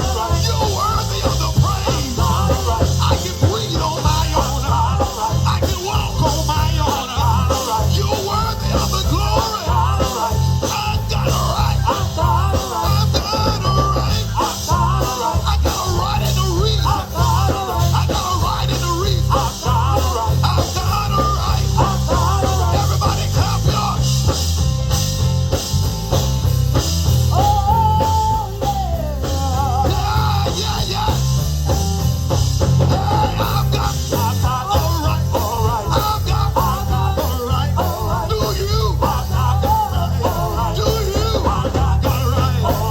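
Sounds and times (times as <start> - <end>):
bass guitar: 0.0 - 42.9
drum kit: 0.0 - 42.9
organ: 0.0 - 42.9.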